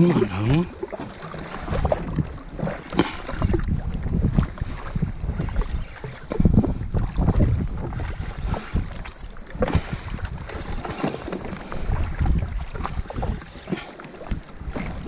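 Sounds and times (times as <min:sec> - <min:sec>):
water slapping against a hull: 0:00.0 - 0:15.0
wind buffeting the microphone: 0:00.0 - 0:15.0.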